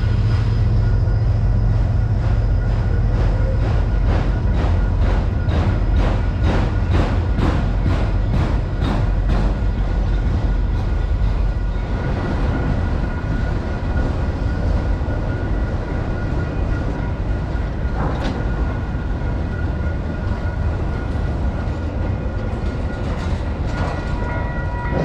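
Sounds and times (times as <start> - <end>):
train cars clanking: 0.0 - 25.0
train wheels rumbling on rails: 0.0 - 25.0.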